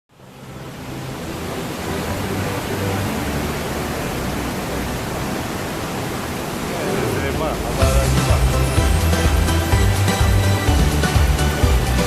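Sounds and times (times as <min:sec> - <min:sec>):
rushing waterfall: 0:00.1 - 0:12.0.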